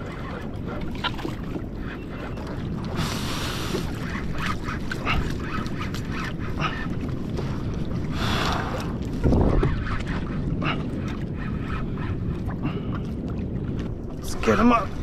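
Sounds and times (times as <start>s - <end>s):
water: 0.0s - 15.0s
wind on microphone: 0.0s - 15.0s.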